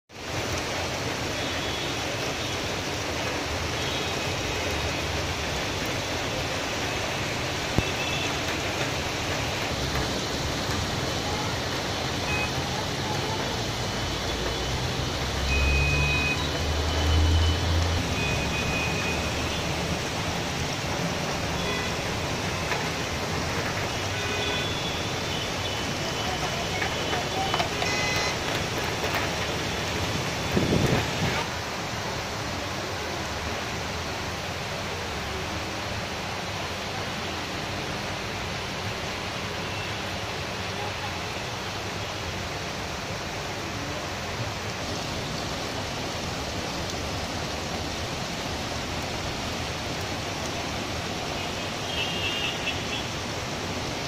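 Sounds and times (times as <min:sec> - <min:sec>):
heavy rain falling: 0:00.1 - 0:54.0.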